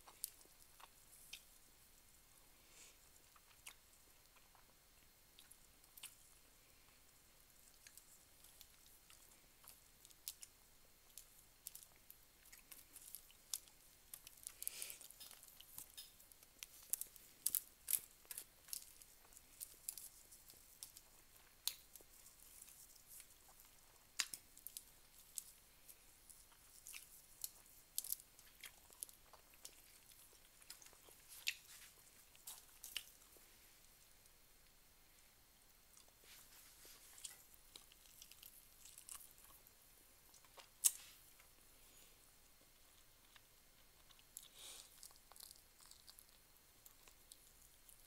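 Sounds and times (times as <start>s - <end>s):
wet chewing: 3.2s - 6.4s, 7.6s - 33.5s, 36.0s - 41.6s, 42.6s - 48.0s.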